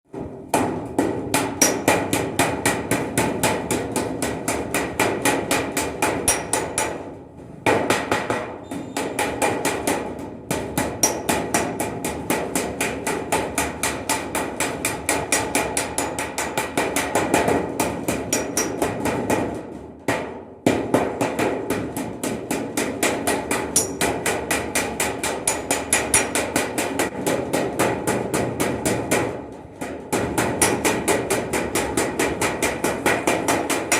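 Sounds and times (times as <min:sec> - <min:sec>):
hammer beating metal vessel: 0:00.1 - 0:33.9.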